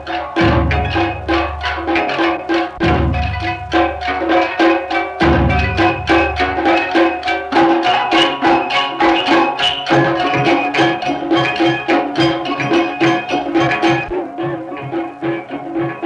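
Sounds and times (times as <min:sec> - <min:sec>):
held notes: 0:00.0 - 0:16.0
pitched percussive strikes: 0:00.0 - 0:16.0.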